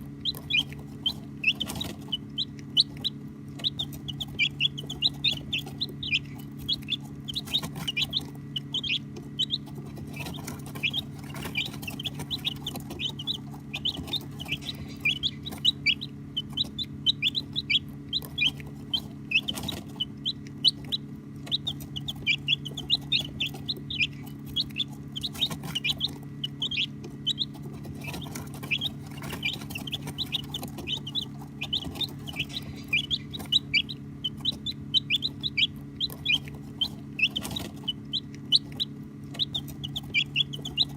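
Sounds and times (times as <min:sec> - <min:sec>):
baby chicks peeping: 0:00.0 - 0:40.9
steady low hum: 0:00.0 - 0:40.9.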